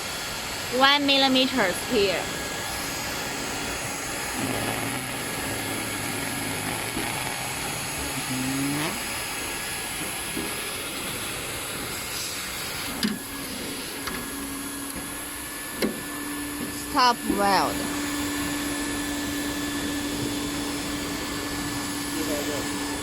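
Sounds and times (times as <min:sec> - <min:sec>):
hot-air blower hissing: 0:00.0 - 0:23.0.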